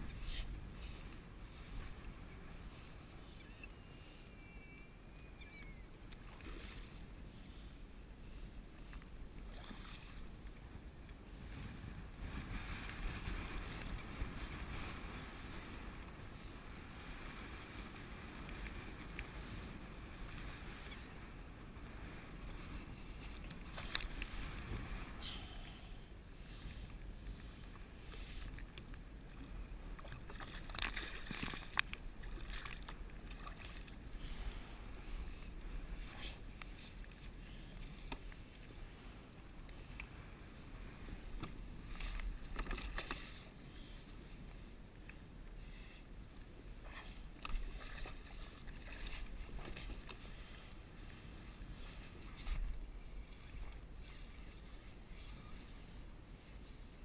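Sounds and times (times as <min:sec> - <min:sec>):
water lapping against kayak hull: 0:05.6 - 0:57.0.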